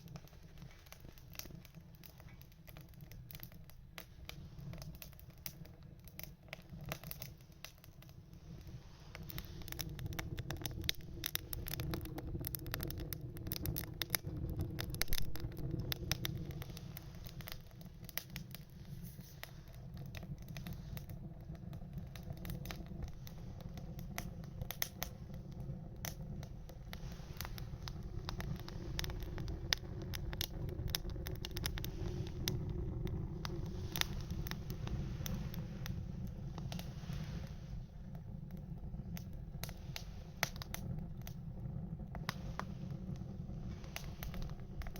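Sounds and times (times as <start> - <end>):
low steady rumble: 0.0 - 44.9
wood fire crackling and popping: 0.0 - 44.9.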